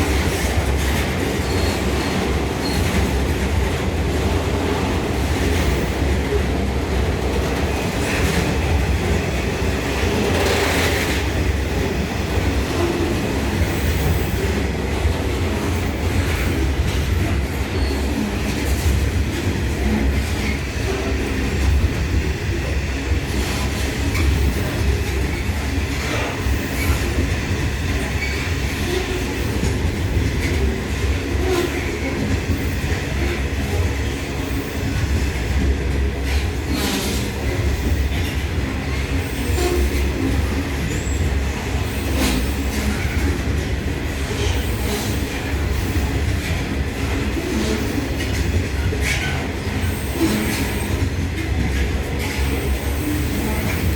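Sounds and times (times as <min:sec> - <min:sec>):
train wagons rumbling on track: 0:00.0 - 0:53.9.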